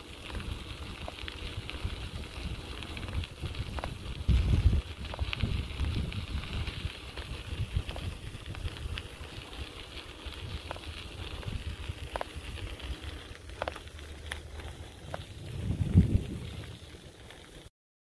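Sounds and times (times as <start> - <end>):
bicycle tyres crunching on gravel: 0.0 - 17.7.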